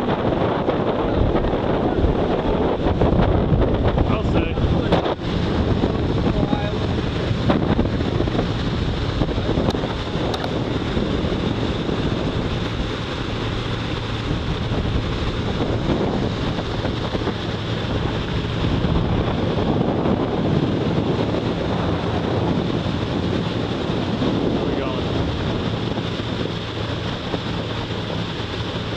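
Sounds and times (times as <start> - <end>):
boat motor droning: 0.0 - 28.9
water rushing past hull: 0.0 - 28.9
wind buffeting microphone: 0.0 - 28.9.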